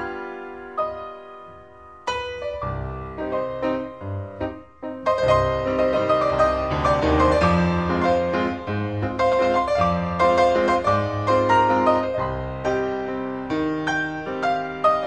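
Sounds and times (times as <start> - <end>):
background piano music: 0.0 - 15.0.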